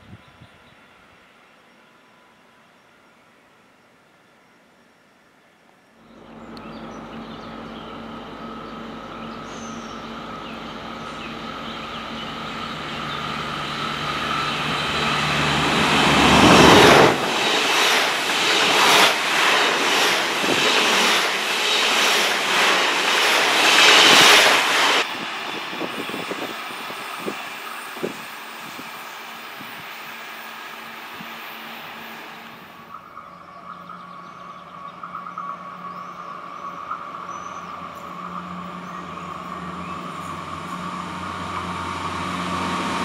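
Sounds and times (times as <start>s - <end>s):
diesel train engine hum: 6.0s - 43.0s
wheel and rail noise: 6.0s - 43.0s.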